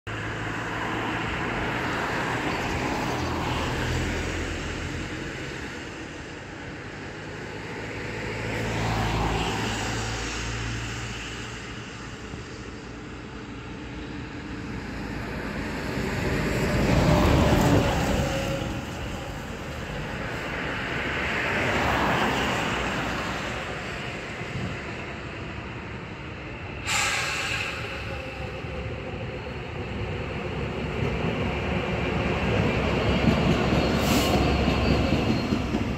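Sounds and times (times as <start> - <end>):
diesel locomotive engine rumble: 0.1 - 35.9.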